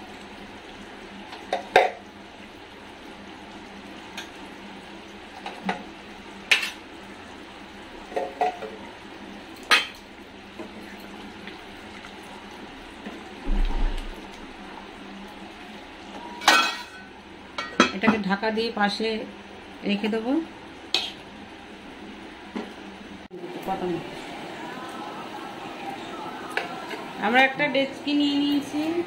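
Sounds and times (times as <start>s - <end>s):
curry simmering hiss: 0.0s - 17.7s, 18.3s - 29.0s.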